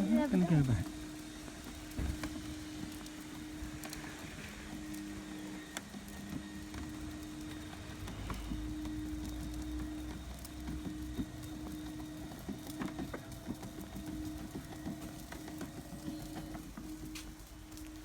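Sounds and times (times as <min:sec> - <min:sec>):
small electric motor humming: 0:00.0 - 0:18.0.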